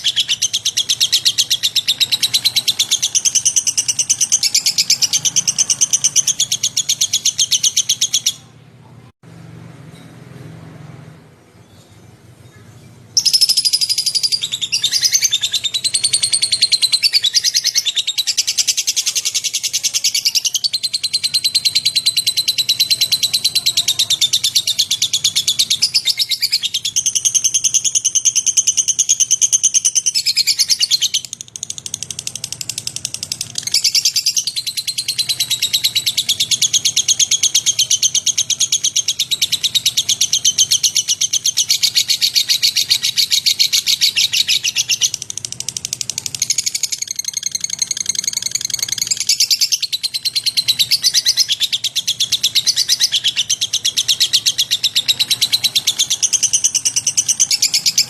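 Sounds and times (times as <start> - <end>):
lovebird chattering trill: 0.0 - 8.6, 13.2 - 58.0.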